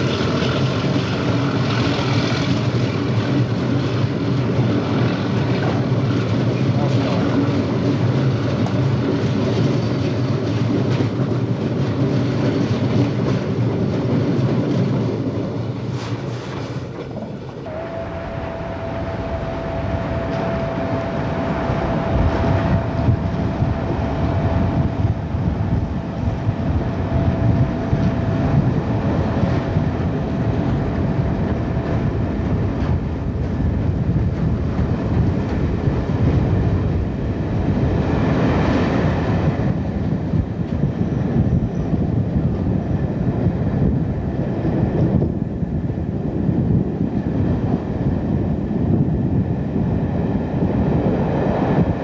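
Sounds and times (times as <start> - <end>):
passenger train running on track: 0.0 - 52.0
steady train whine: 0.0 - 52.0.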